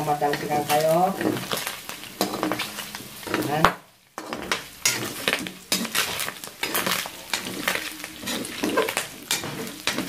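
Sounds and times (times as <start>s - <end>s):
metal spatula scraping pan: 0.0s - 10.0s
pork frying and popping: 0.0s - 10.0s.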